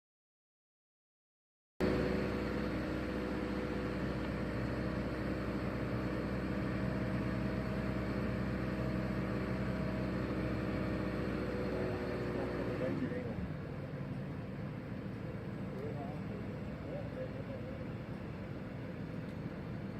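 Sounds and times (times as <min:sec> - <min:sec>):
heavy machine engine drone: 0:01.8 - 0:19.9.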